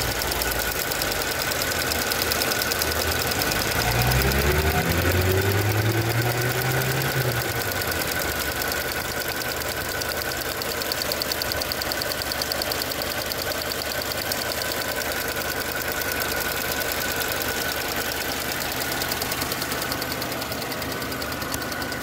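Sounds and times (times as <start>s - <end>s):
car engine idling: 0.0s - 22.0s
valve ticking rapidly: 0.0s - 22.0s.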